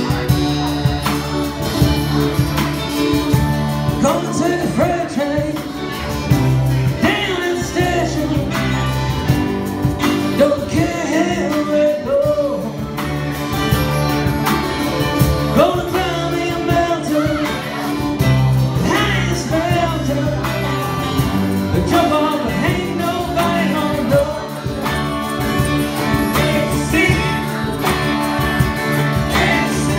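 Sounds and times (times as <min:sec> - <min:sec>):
bass guitar: 0:00.0 - 0:29.9
drums: 0:00.0 - 0:29.9
electric guitar: 0:00.0 - 0:29.9
person singing: 0:00.0 - 0:29.9.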